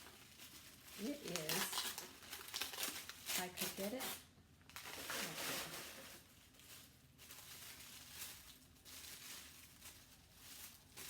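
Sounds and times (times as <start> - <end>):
gift wrapping rustling: 0.0 - 11.0.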